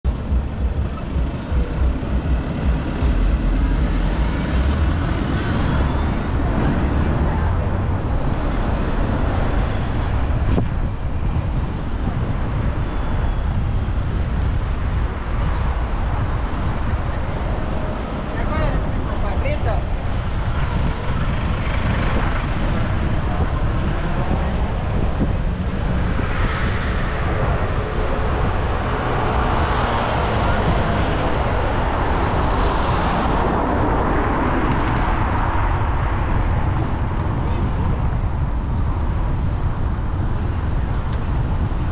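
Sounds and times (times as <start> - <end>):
bus engine rumbling: 0.0 - 41.9
road traffic: 0.0 - 41.9.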